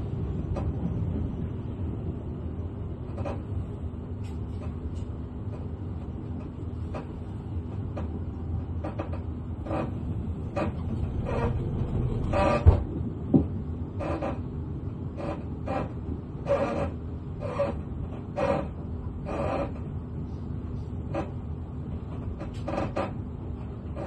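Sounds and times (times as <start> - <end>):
train running gear rumble: 0.0 - 24.0.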